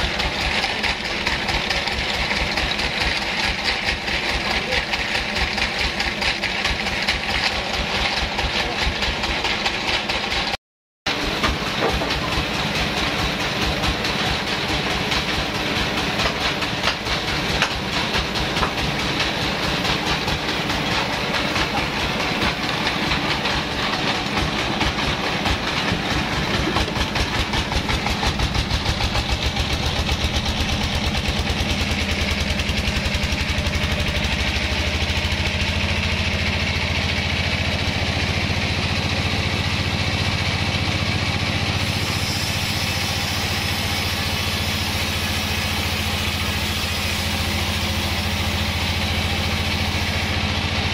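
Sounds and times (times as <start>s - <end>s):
sawmill engine chugging: 0.0s - 50.9s.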